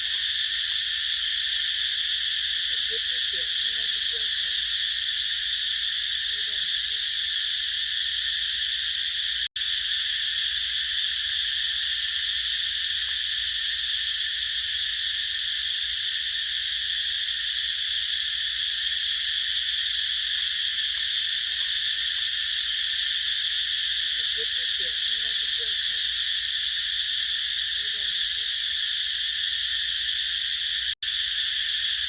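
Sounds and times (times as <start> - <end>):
cicadas buzzing: 0.0 - 32.0.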